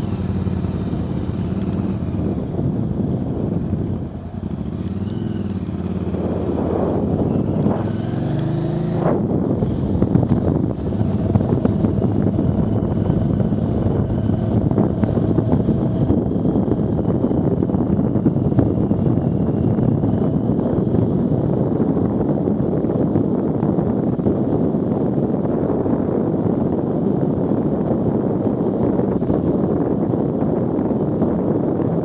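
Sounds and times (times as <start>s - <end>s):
faint motorcycle engine: 0.0s - 32.0s
wind rushing over microphone: 0.0s - 32.0s.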